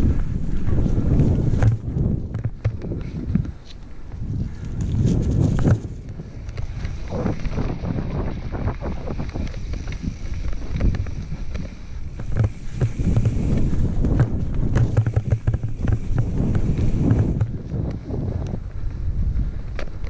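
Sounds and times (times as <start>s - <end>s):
bike rattling over rocks: 0.0s - 20.0s
bike tyre rumble: 0.0s - 20.0s
wind buffeting microphone: 0.0s - 20.0s.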